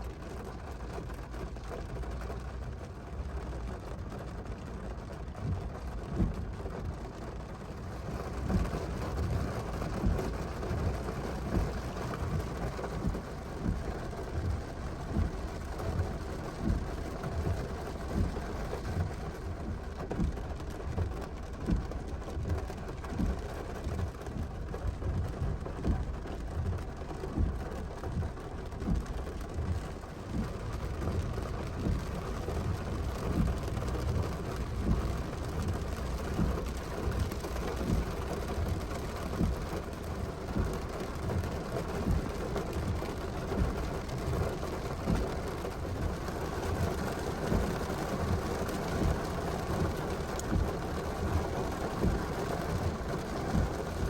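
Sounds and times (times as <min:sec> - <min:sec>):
raindrops thudding on surface: 0:00.0 - 0:54.0
steady rain: 0:00.0 - 0:54.0.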